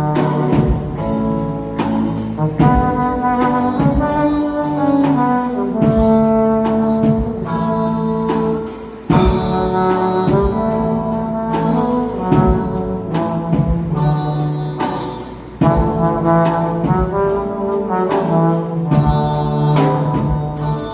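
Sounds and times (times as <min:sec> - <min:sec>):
backing track with drums: 0:00.0 - 0:20.9
trombone melody: 0:00.0 - 0:20.9.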